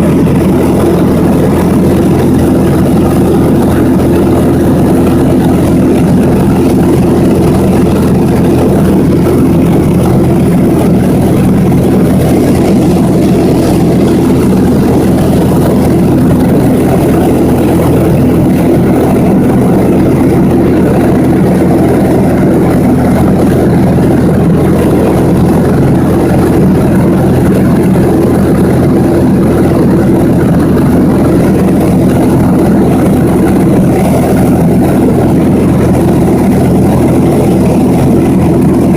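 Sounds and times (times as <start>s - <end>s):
small airplane engine drone: 0.0s - 38.9s.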